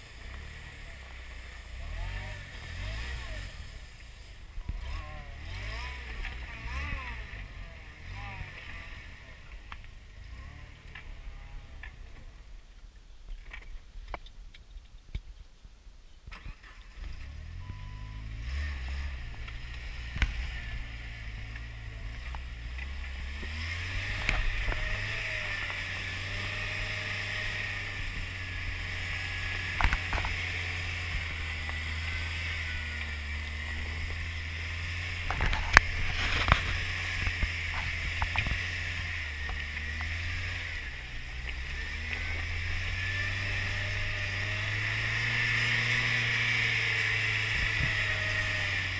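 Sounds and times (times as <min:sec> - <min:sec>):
low engine hum: 0:00.0 - 0:15.3, 0:16.1 - 0:48.9.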